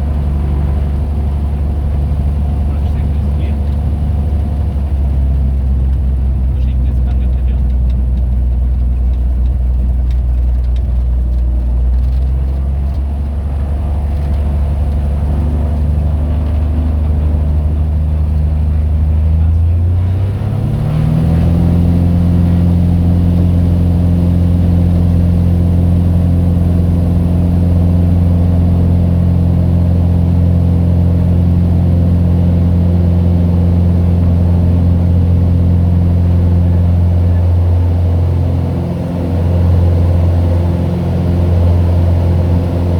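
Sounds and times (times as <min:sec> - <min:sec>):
airplane engine and propeller drone: 0:00.0 - 0:42.9.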